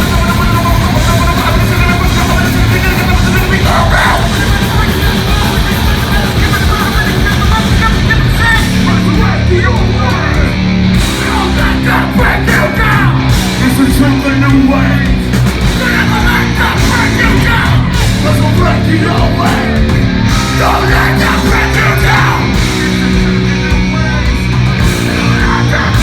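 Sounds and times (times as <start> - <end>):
heavy metal band playing: 0.0 - 26.0
yelled and sung vocals: 0.0 - 26.0.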